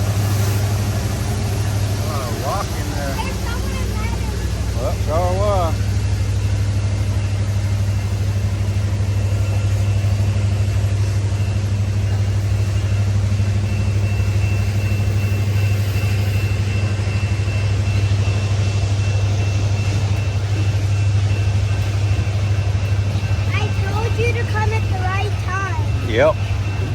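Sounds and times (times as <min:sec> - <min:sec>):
engine humming: 0:00.0 - 0:26.9
faint high whine: 0:00.0 - 0:26.9.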